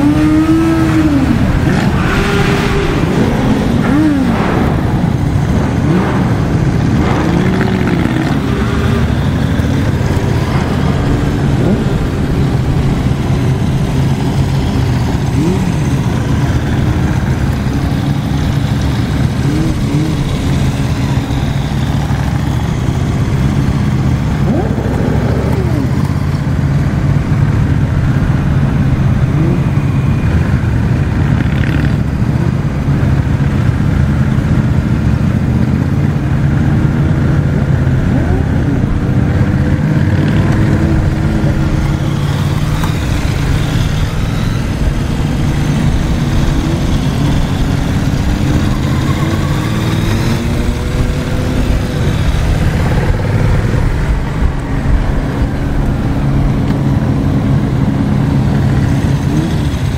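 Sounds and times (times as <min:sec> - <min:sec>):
motorcycle engines revving: 0:00.0 - 0:59.9
motorcycle engines rumbling: 0:00.0 - 0:59.9.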